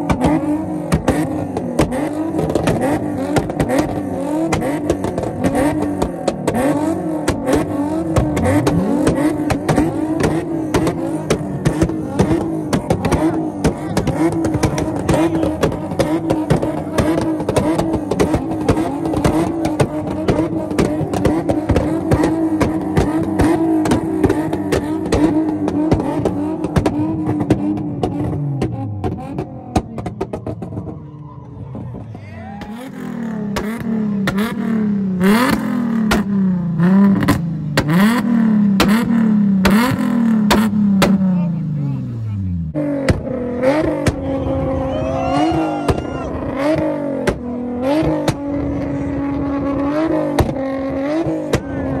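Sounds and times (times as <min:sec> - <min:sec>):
car engine revving with exhaust pops: 0:00.0 - 0:52.0
car engine throttle blips: 0:00.0 - 0:52.0.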